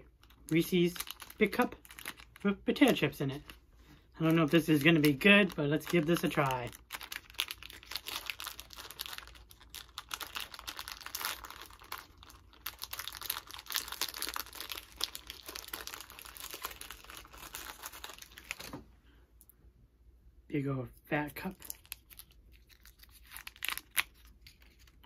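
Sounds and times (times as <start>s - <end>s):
candy wrapper crinkling and tearing: 0.0s - 18.8s, 21.4s - 25.0s.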